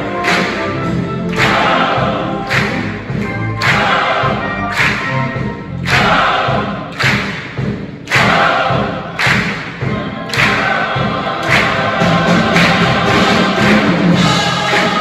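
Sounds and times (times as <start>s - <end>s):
instrumental accompaniment: 0.0s - 15.0s
large choir singing: 0.0s - 15.0s.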